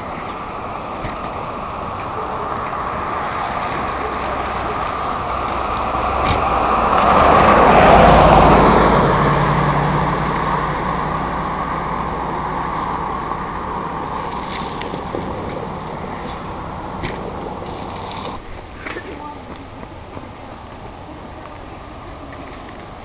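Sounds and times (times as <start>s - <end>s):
vehicle passing: 0.0s - 23.0s.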